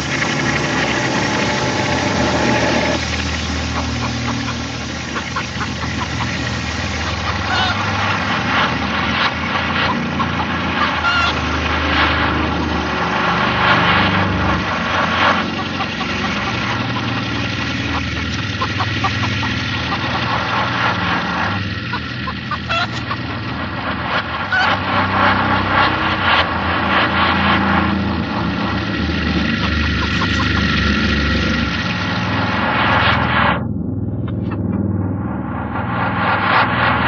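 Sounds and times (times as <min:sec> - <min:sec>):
grinding noise: 0:00.0 - 0:37.0
low humming tones: 0:00.0 - 0:37.0.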